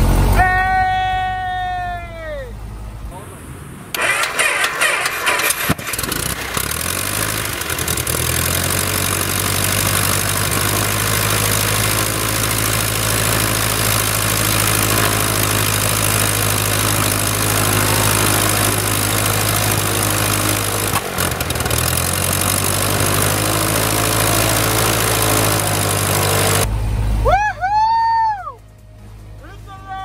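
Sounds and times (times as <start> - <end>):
aircraft engine and propeller running: 2.6 - 27.4, 28.4 - 30.0.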